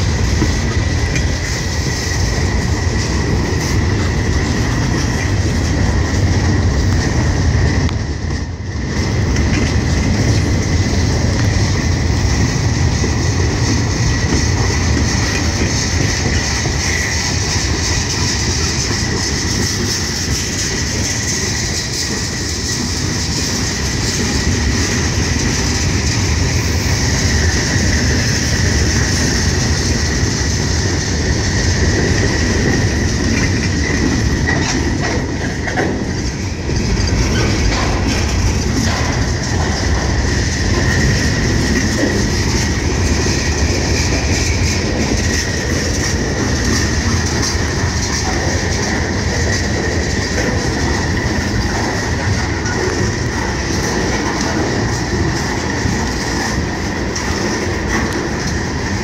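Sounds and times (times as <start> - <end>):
train cars clanking: 0.0 - 59.0
train wheels clattering: 0.0 - 59.0.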